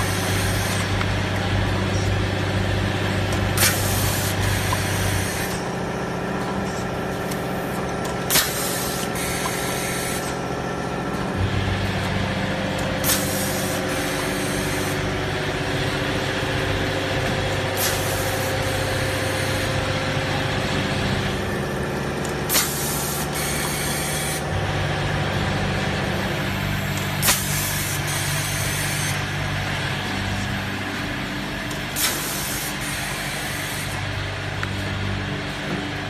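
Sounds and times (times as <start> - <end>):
packing machine humming: 0.0 - 36.0.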